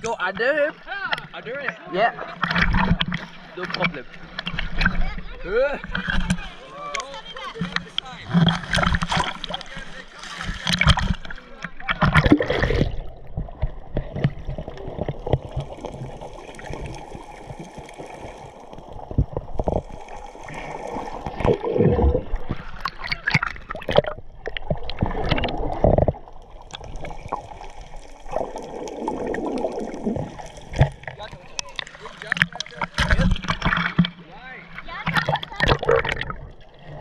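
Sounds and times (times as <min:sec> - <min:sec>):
underwater gurgling water: 0:00.8 - 0:37.0
underwater knocks and clicks: 0:02.4 - 0:05.2, 0:05.8 - 0:37.0.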